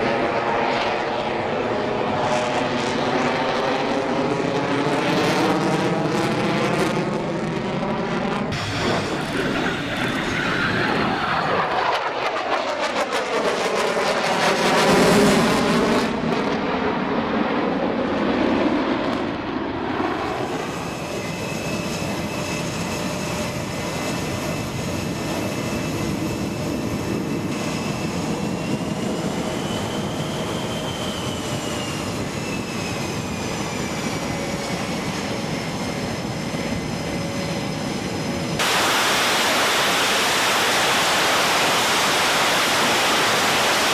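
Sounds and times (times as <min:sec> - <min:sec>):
jet aircraft flying past: 0:00.0 - 0:43.9
jet engine whine: 0:00.0 - 0:43.9.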